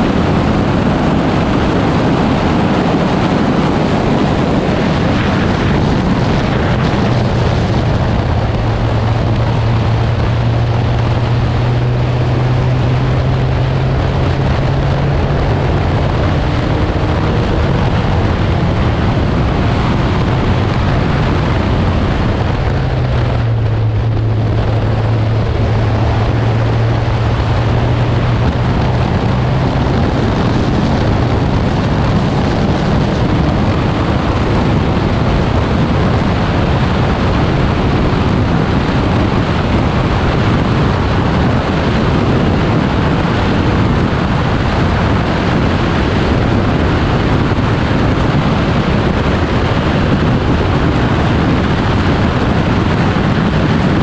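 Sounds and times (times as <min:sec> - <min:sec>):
car engine running hard: 0:00.0 - 0:54.0
wind noise on microphone: 0:00.0 - 0:54.0.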